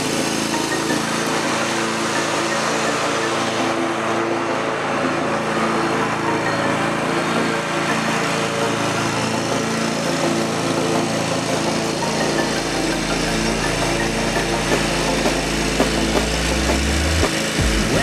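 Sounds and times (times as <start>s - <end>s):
lawn mower engine cutting grass: 0.0s - 18.0s.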